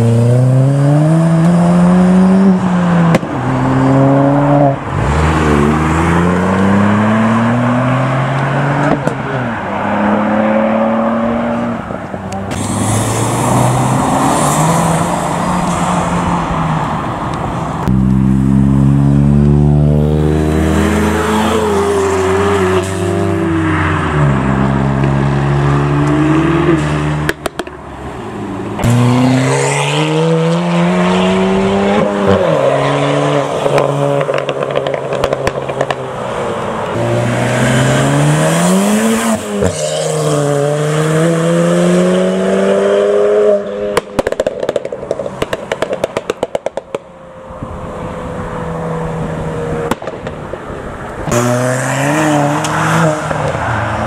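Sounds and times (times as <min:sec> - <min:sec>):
cars accelerating hard: 0:00.0 - 0:47.0, 0:47.9 - 0:54.0.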